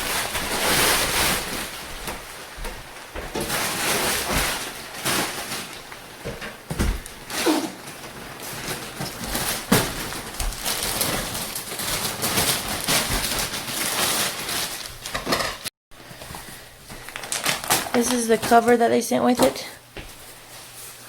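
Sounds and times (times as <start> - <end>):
plastic wrapping crinkling: 0.0 - 6.4, 7.0 - 19.4.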